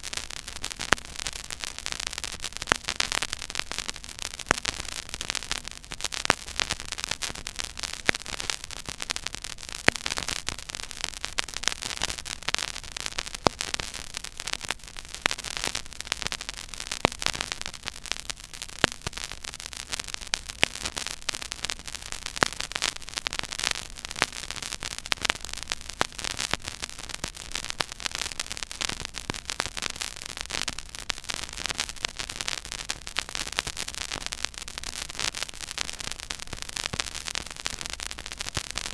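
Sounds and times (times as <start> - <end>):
vinyl record surface hiss and crackle: 0.0 - 38.9.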